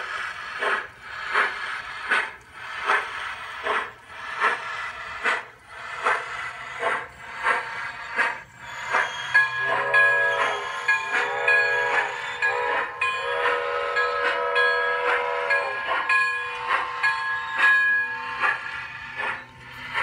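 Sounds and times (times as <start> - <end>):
steam locomotive chuffing: 0.0 - 20.0.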